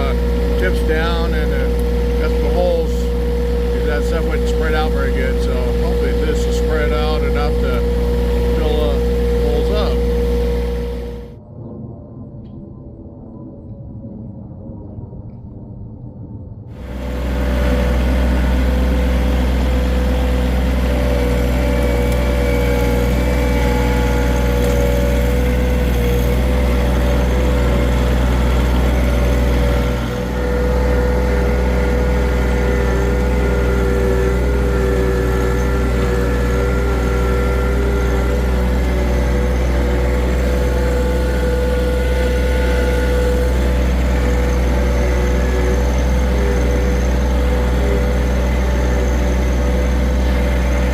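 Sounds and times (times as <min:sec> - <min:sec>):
tractor diesel engine droning: 0:00.0 - 0:11.4, 0:16.7 - 0:50.9.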